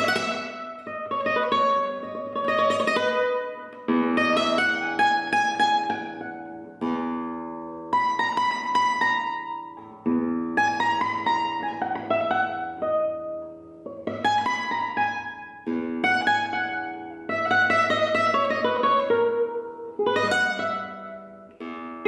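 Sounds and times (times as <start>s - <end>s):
flamenco guitar chords and picking: 0.0s - 22.0s.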